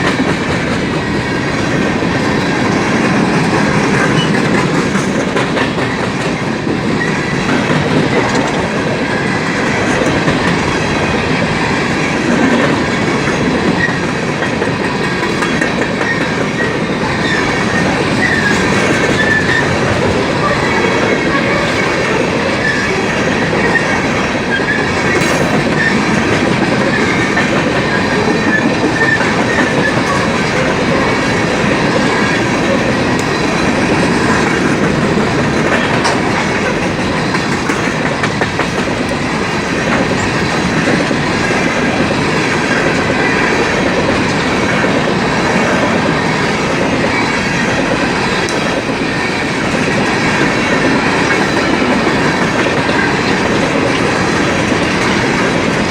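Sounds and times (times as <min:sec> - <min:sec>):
train wheels clicking over rail joints: 0:00.0 - 0:55.9.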